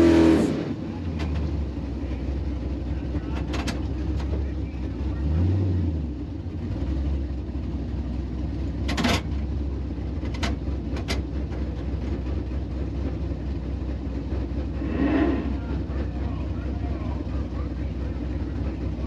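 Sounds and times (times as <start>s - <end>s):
car engine idling: 0.4s - 19.0s.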